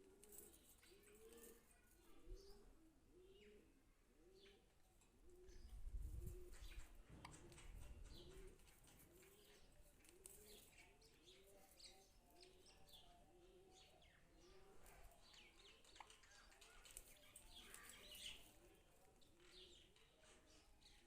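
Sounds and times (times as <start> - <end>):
faint pigeon cooing: 0.0 - 21.0.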